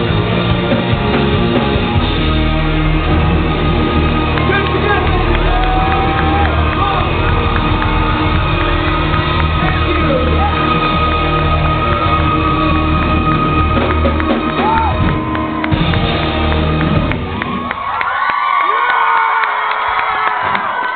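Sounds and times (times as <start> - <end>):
rock band playing live: 0.0 - 17.7.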